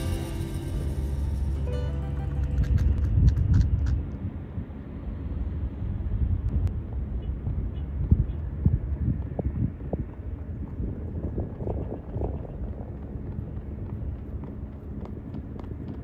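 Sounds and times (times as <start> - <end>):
open-air rumble: 0.0 - 16.0.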